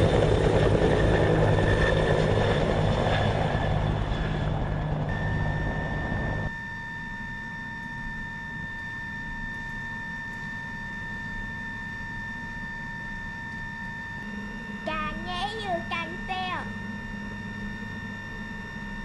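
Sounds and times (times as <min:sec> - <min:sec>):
helicopter rotor and engine: 0:00.0 - 0:19.0
high whine: 0:00.0 - 0:19.0.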